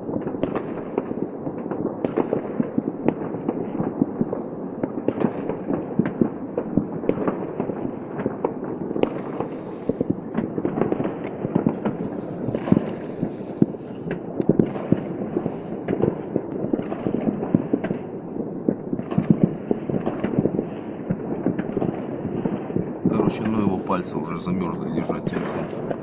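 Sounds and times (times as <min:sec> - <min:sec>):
fireworks bangs and crackles: 0:00.0 - 0:26.0
fireworks rumble: 0:00.0 - 0:26.0.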